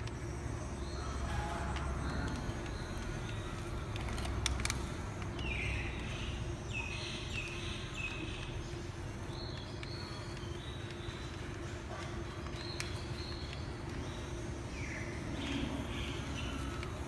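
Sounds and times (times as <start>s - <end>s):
electric motors whining: 0.0s - 17.0s
steady low hum: 0.0s - 17.0s.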